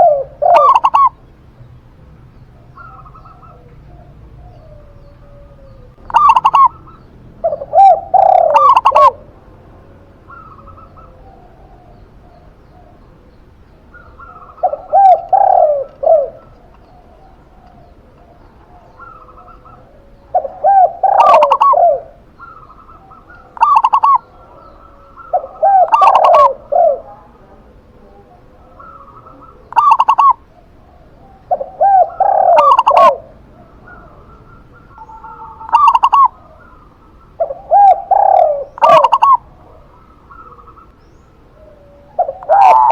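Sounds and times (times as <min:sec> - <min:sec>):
faint higher coos: 0:00.0 - 0:01.2, 0:02.6 - 0:42.9
doves cooing: 0:00.0 - 0:42.9.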